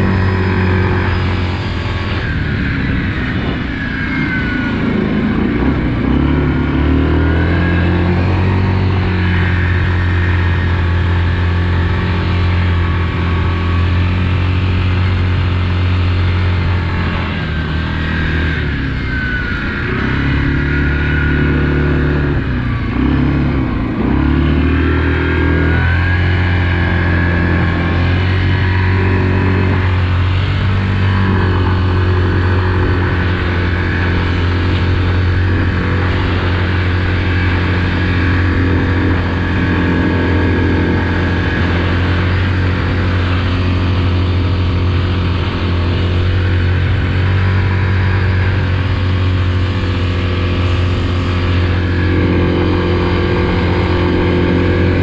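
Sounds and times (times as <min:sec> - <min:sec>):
atv engine under throttle: 0:00.0 - 0:55.0.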